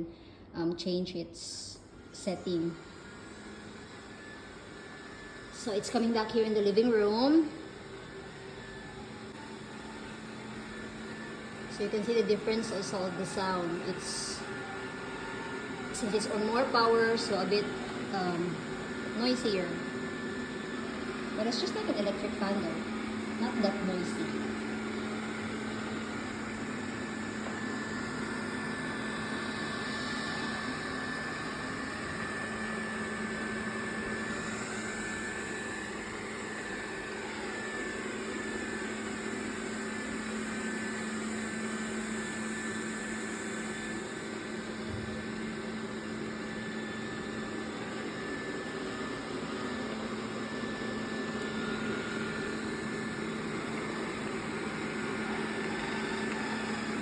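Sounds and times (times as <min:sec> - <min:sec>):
robot vacuum fan hum and whine: 0:00.0 - 0:57.0.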